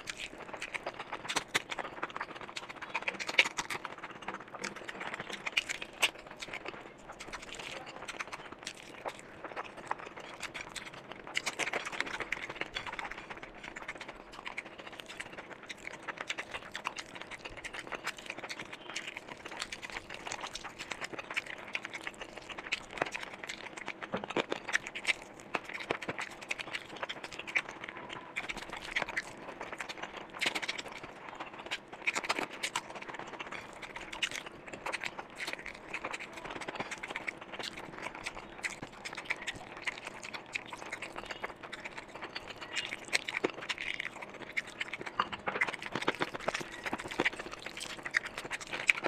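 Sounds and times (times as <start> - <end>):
fingers squishing rice: 0.0 - 49.0
lip smacks and clicks: 0.0 - 49.0
wet chewing: 0.0 - 49.0.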